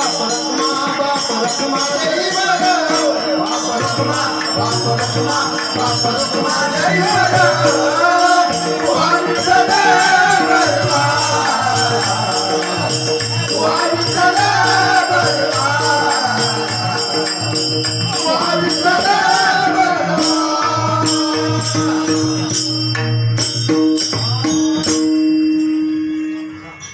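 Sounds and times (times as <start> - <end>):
voices singing devotional song: 0.0 - 23.0
small hand cymbals: 0.0 - 26.9.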